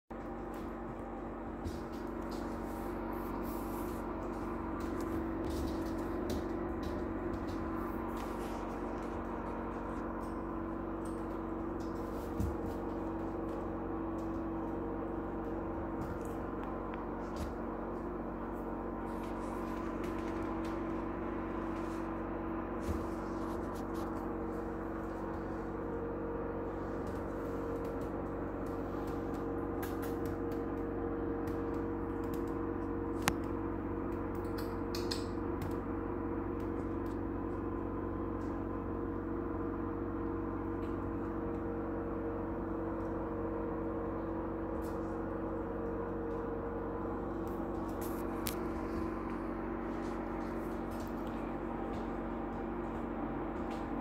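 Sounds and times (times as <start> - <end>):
steady hum with held tones: 0.1 - 54.0.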